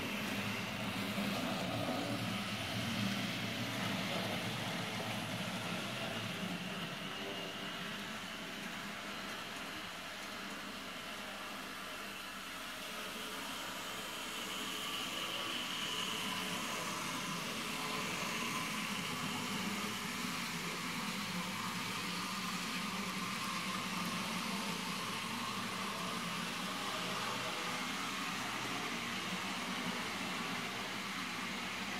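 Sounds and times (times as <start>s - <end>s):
model train motor humming: 0.0s - 31.9s.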